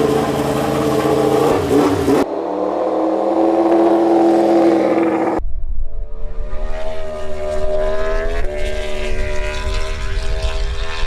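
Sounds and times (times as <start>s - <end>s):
high-revving racing engine: 0.0s - 11.0s.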